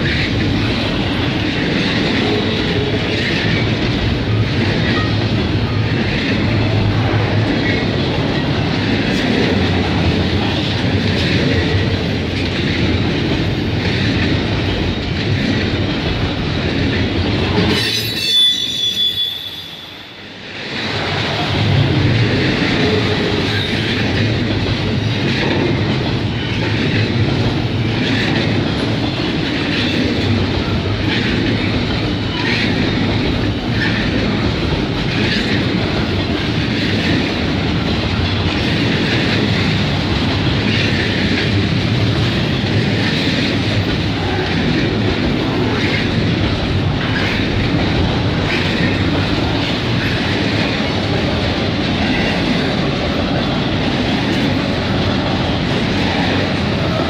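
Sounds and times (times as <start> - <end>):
train wheels clickety-clack on rails: 0.0 - 57.0.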